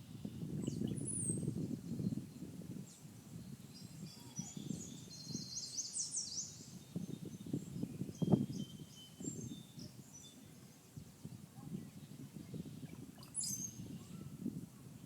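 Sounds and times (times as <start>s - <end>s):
songbirds singing and calling: 0.0s - 15.0s.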